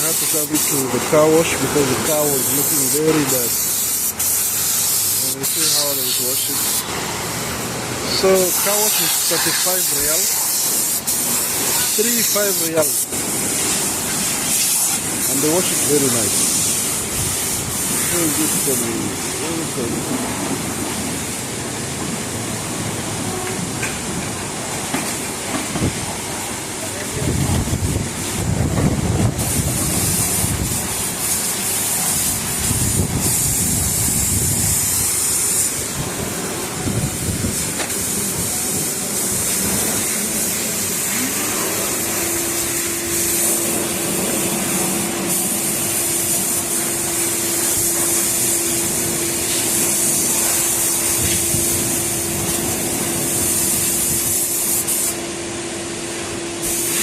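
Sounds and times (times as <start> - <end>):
pressure washer spray hissing: 0.0 - 57.0.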